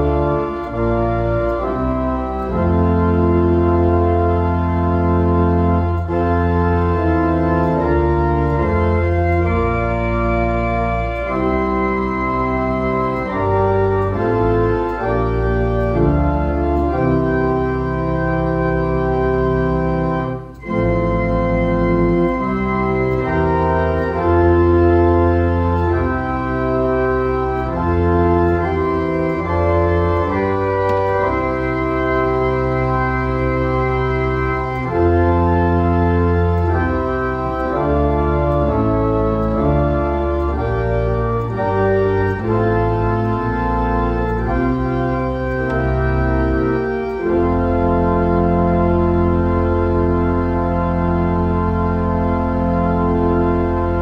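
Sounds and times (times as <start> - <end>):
church organ playing hymn chords: 0.0 - 54.0
low organ pedal bass notes: 0.0 - 54.0.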